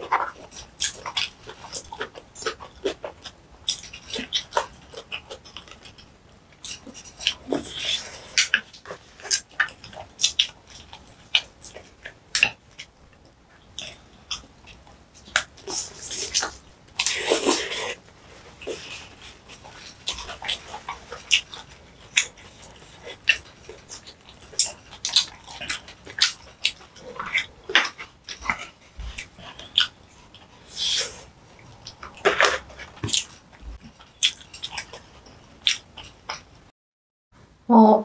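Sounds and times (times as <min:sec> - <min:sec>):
person chewing: 0:00.0 - 0:36.5.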